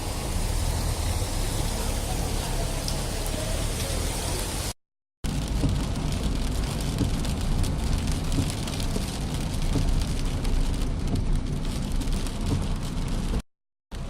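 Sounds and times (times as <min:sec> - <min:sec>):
heavy rain: 0:00.0 - 0:13.4
low traffic rumble: 0:00.0 - 0:13.4.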